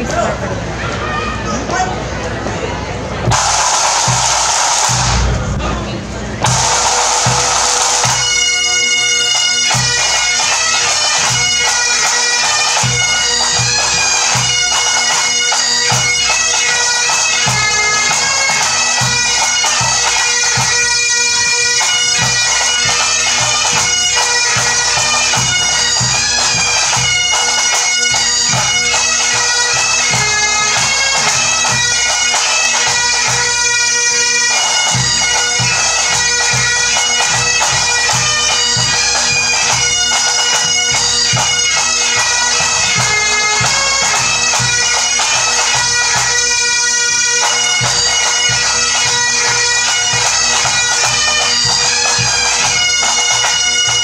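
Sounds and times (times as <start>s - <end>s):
snare and tenor drums: 3.3s - 5.7s, 6.4s - 54.0s
bagpipes playing melody: 3.3s - 54.0s.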